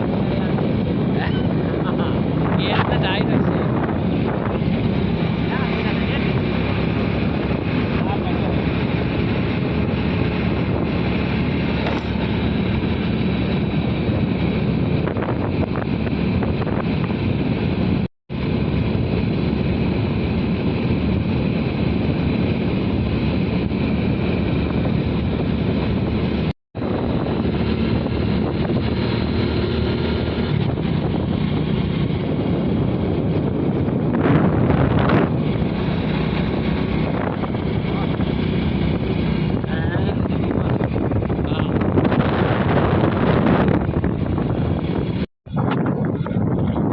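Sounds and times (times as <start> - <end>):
low engine hum: 0.0 - 46.9
wind noise on microphone: 0.0 - 46.9.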